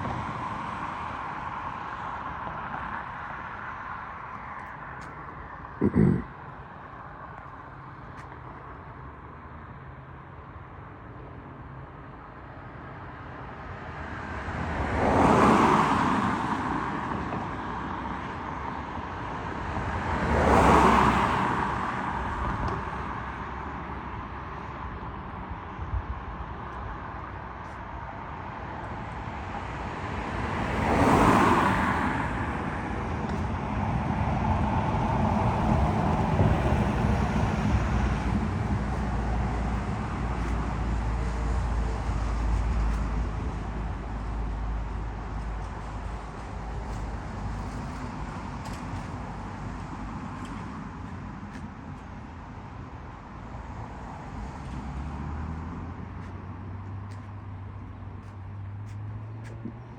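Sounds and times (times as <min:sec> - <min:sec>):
heavy traffic rumble: 0:00.0 - 0:59.9
vehicles passing by: 0:00.0 - 0:59.9.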